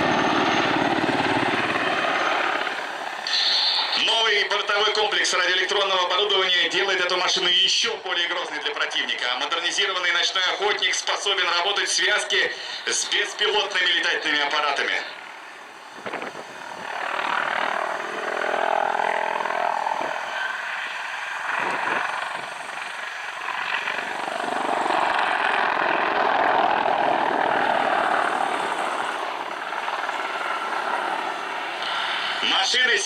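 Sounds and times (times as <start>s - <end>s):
helicopter engines and rotor: 0.0s - 33.0s.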